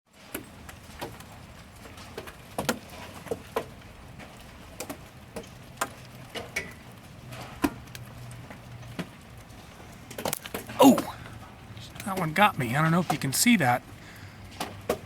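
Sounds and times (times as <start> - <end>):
hailstones pinging on hard surfaces: 0.2 - 15.0.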